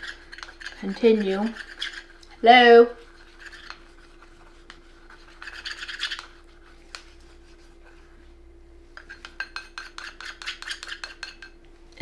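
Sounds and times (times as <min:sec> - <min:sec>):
utensil scraping in container: 0:00.0 - 0:02.4, 0:03.0 - 0:07.7, 0:09.0 - 0:11.6.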